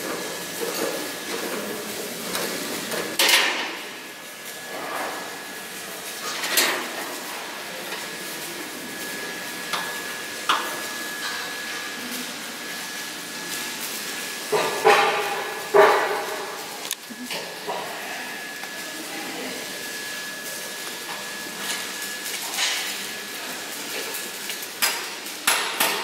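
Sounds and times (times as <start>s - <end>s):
steady workshop background din: 0.0s - 26.0s.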